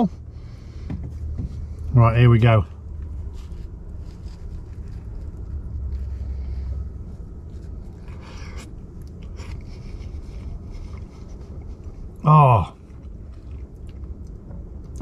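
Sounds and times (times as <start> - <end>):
low steady rumble: 0.0 - 15.0
man chewing pizza: 2.7 - 15.0.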